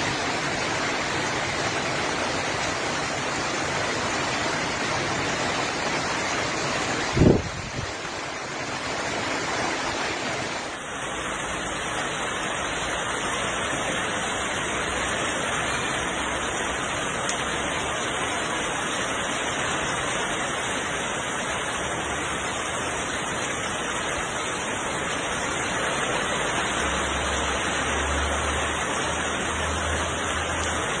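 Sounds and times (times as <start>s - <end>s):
heavy rain on corrugated roof: 0.0s - 31.0s.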